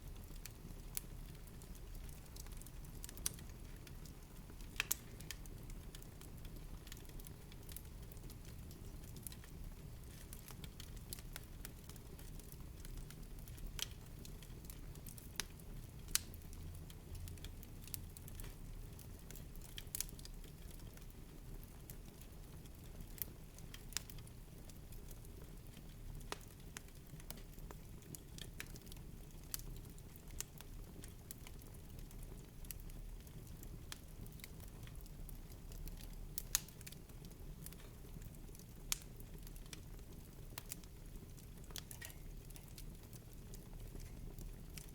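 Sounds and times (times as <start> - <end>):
fireplace fire crackling: 0.0 - 44.9.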